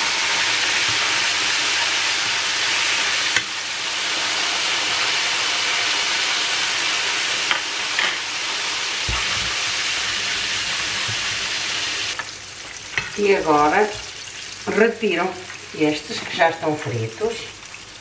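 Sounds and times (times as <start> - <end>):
fish sizzling in hot oil: 0.0 - 18.0.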